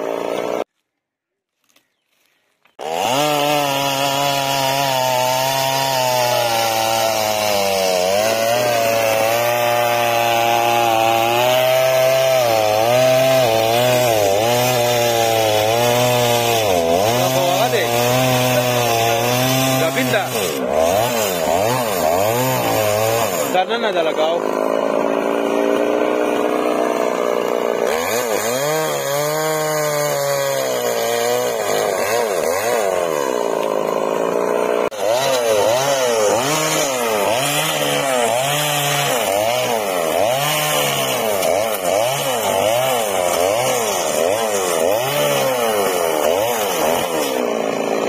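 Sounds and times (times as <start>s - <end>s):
chainsaw revving: 0.0s - 0.7s, 2.7s - 48.0s
chainsaw cutting through tree: 0.0s - 0.8s, 2.6s - 48.0s.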